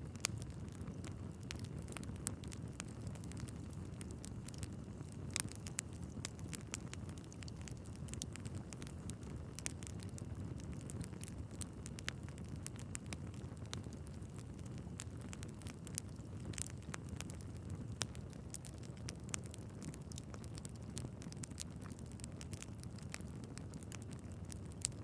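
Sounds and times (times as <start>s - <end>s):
fire flames rumbling: 0.0s - 25.0s
logs crackling and popping: 0.0s - 25.0s.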